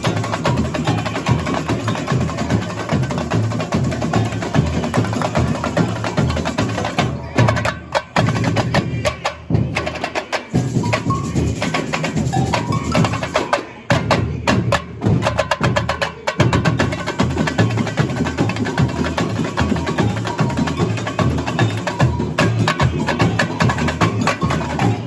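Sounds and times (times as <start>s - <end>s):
samba drumming: 0.0s - 25.0s.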